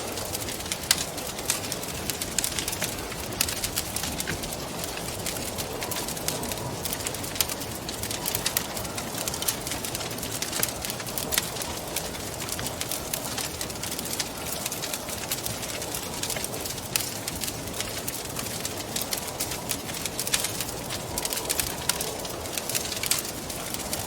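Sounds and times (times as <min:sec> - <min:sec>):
rushing wind: 0:00.0 - 0:24.0
wood fire crackling and popping: 0:00.0 - 0:24.0.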